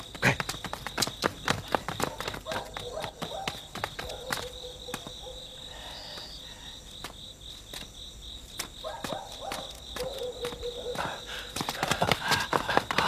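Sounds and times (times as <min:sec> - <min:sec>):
sharp clicks like footsteps: 0:00.0 - 0:05.2, 0:06.9 - 0:13.0
crickets chirping: 0:00.0 - 0:13.0.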